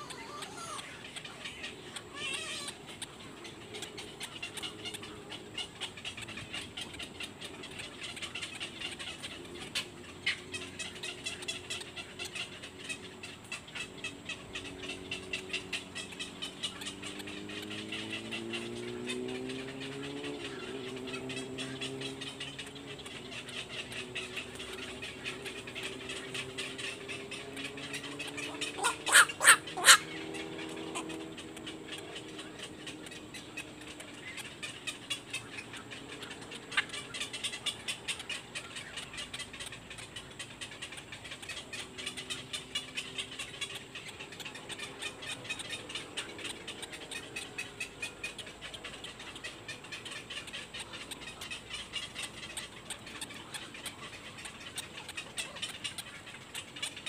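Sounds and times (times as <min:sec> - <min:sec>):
bird chicks ticking chatter: 0:00.0 - 0:57.0
sharp bird calls: 0:00.0 - 0:57.0.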